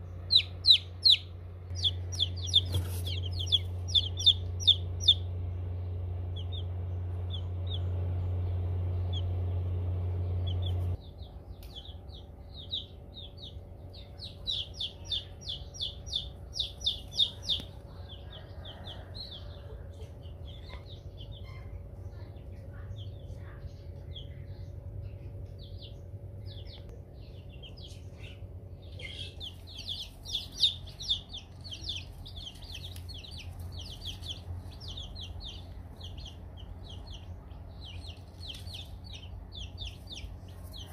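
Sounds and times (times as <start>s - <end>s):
chicks peeping: 0.0s - 40.9s
steady low hum: 0.0s - 40.9s.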